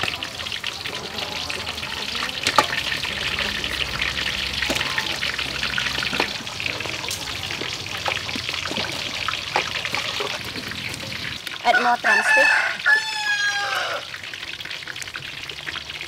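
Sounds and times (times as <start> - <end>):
water splashing in metal bowl: 0.0 - 16.0.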